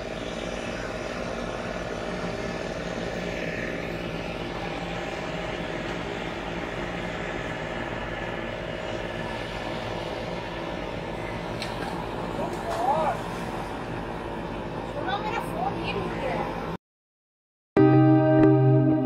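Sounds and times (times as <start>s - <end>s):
boat engine droning: 0.0s - 16.8s, 17.8s - 19.0s.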